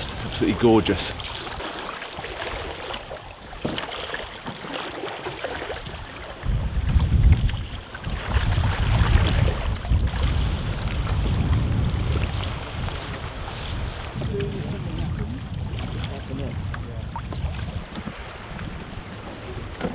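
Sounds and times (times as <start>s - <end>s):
wind buffeting microphone: 0.0s - 3.2s, 5.8s - 19.9s
water splashing against canoe hull: 0.0s - 19.9s.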